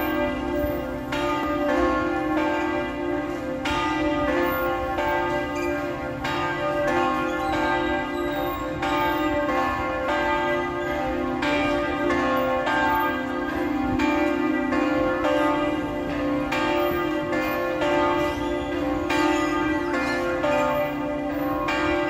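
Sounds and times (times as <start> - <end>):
church bell ringing: 0.0 - 22.0.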